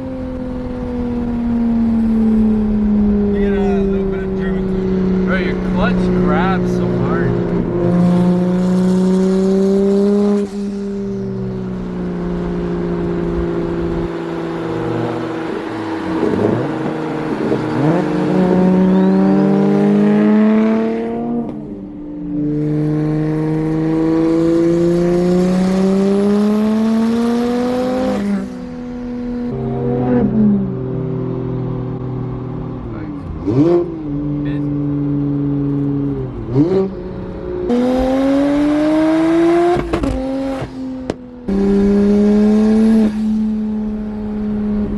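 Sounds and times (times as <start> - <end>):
car engine accelerating: 0.0 - 44.9.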